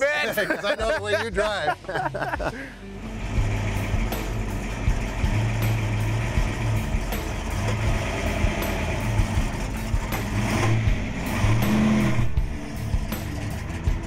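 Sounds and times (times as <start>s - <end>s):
car engine idling unevenly: 0.0s - 14.0s.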